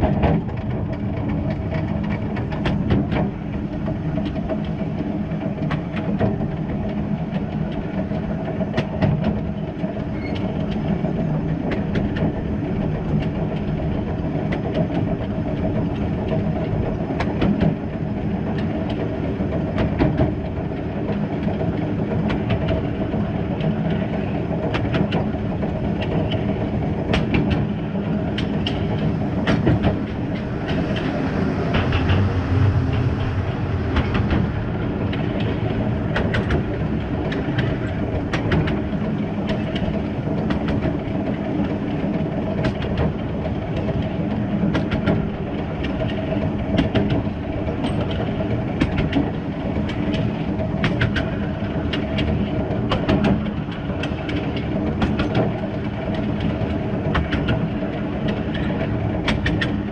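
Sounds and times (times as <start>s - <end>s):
steam locomotive rumble: 0.0s - 59.9s
wheels clicking on rails: 0.0s - 59.9s.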